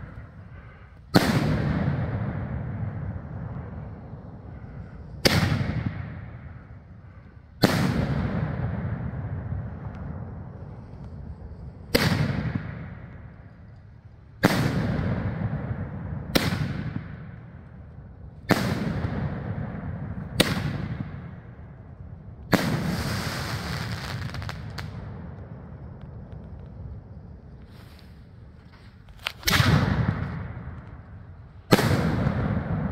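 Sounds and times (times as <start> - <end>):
firework booms with rolling echo: 0.0 - 32.9
fireworks crackling: 0.0 - 32.9.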